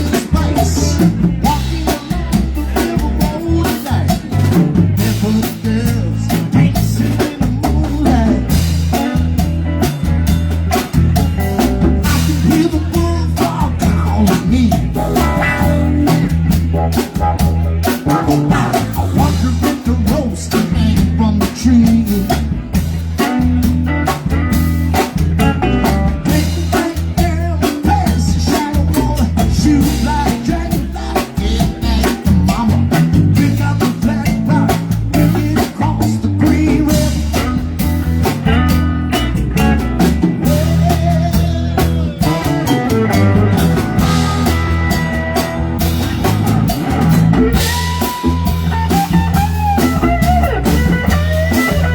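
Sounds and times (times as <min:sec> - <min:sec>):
bass notes: 0:00.0 - 0:51.9
drum kit: 0:00.0 - 0:51.9
guitar: 0:00.0 - 0:51.9
live band playing: 0:00.0 - 0:51.9.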